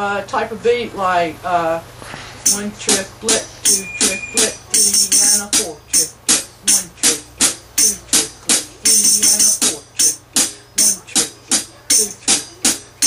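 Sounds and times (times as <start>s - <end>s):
drumsticks striking hi-hat with jingles: 2.4s - 13.0s.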